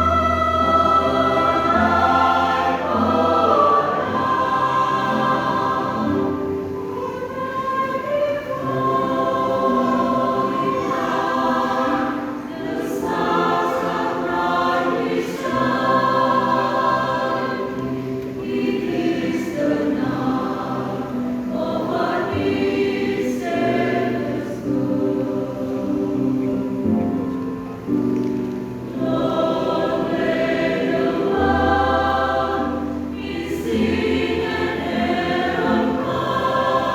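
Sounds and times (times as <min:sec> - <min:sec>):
church choir singing a hymn: 0:00.0 - 0:36.9.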